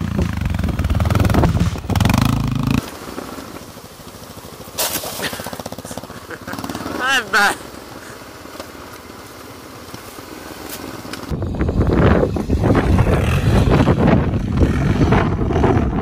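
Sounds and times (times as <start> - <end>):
off-road motorcycle engine: 0.0 - 16.0.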